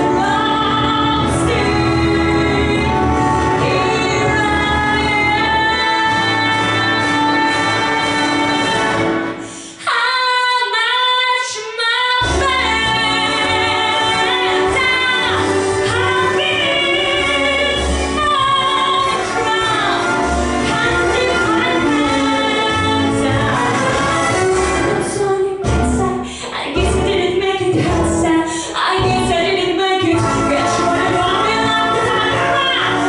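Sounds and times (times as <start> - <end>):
backing track music: 0.0 - 9.9, 12.2 - 33.0
woman singing with vibrato: 0.0 - 33.0.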